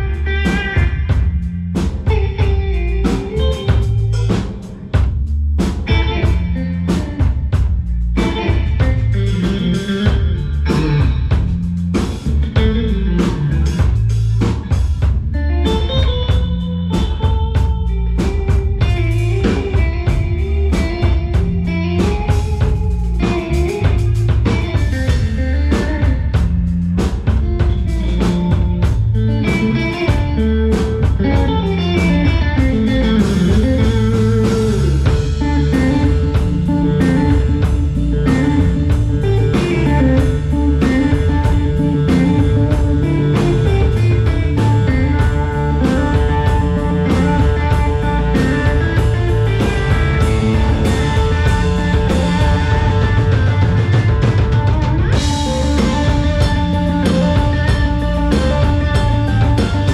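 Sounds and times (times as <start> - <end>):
drum kit steady beat: 0.0 - 59.9
electric guitar lines: 0.0 - 59.9.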